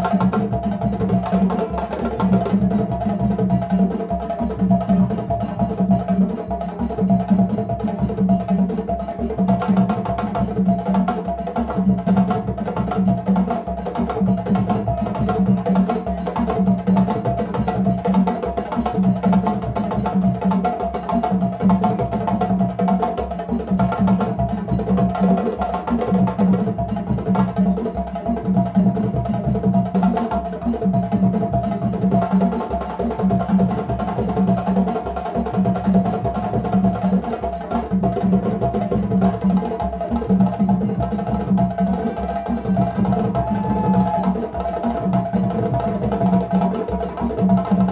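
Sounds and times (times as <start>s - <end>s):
djembe drum ensemble: 0.0s - 47.9s.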